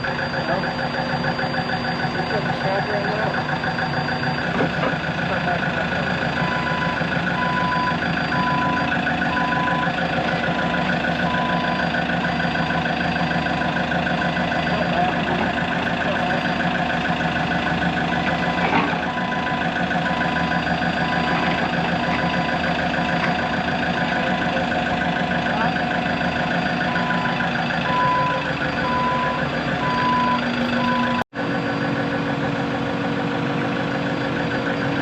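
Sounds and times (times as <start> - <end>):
backup alarm beeping: 0.0 - 31.2
diesel engine running: 0.0 - 35.0.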